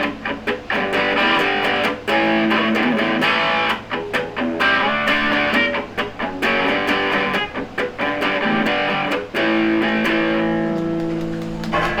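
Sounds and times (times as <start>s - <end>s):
electric guitar playing choppy riff: 0.0s - 12.0s
guitar chord ringing: 0.0s - 12.0s.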